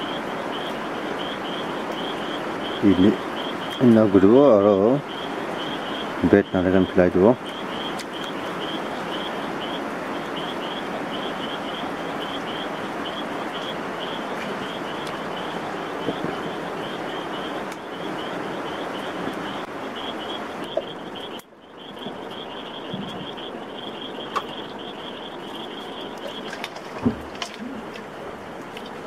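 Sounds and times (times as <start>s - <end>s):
frog or insect chirping: 0.0s - 29.0s.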